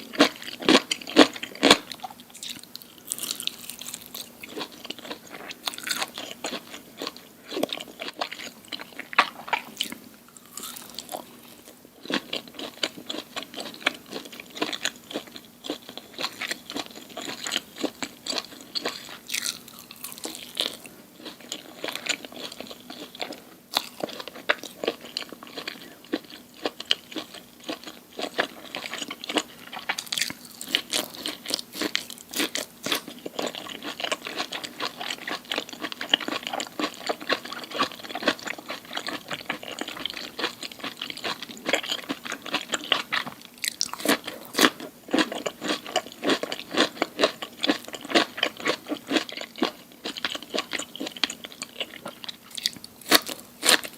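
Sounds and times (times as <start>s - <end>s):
chewing crisp food: 0.0s - 53.9s.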